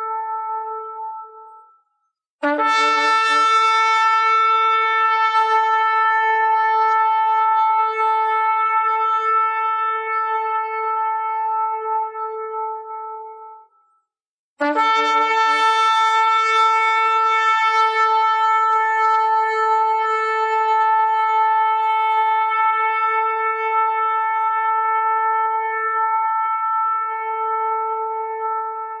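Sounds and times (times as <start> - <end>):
shofar blast: 0.0 - 1.7, 2.4 - 13.8, 14.6 - 29.0.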